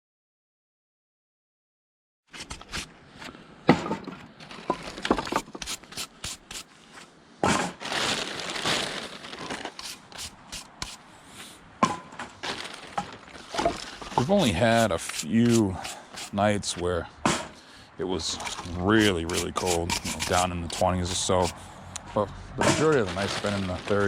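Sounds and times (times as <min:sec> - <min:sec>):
rough scraping rustle: 0:02.3 - 0:03.5, 0:04.2 - 0:24.0.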